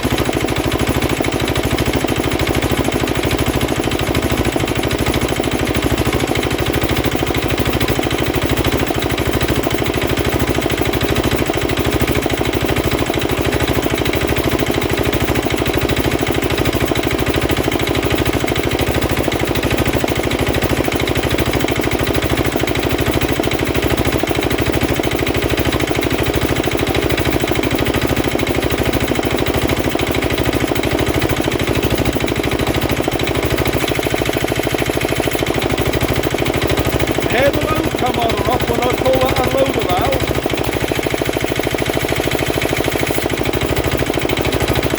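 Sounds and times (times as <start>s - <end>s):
air compressor running: 0.0s - 44.9s
diesel engine running: 0.0s - 44.9s.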